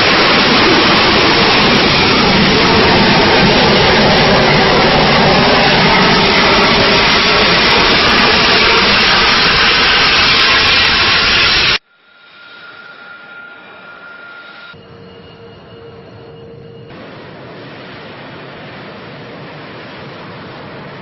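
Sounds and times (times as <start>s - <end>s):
jet engine at full thrust: 0.0s - 21.0s
jet whine with high tone: 0.0s - 21.0s.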